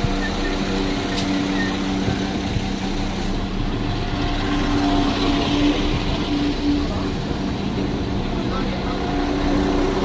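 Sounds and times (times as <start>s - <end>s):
train engine humming: 0.0s - 10.0s.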